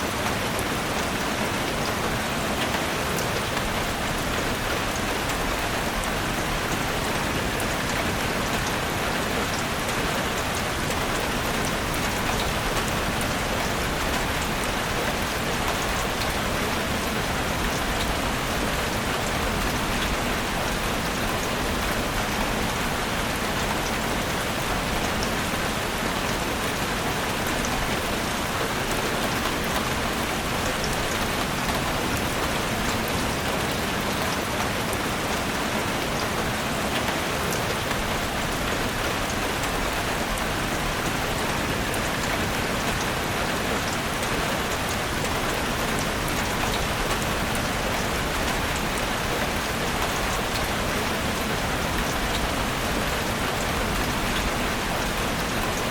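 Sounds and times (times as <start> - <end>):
rain falling in a forest: 0.0 - 55.9.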